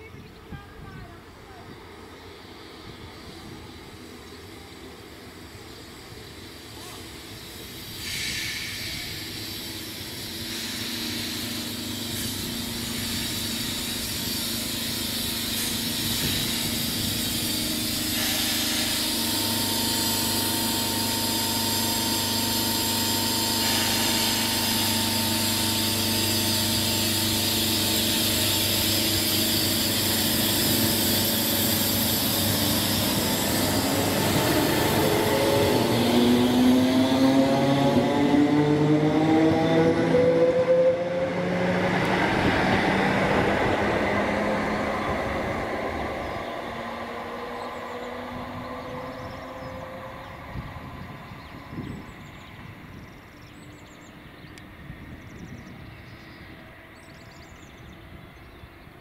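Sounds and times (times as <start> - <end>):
electric train approaching: 0.0 - 59.0
wheels hissing on rail: 0.0 - 59.0.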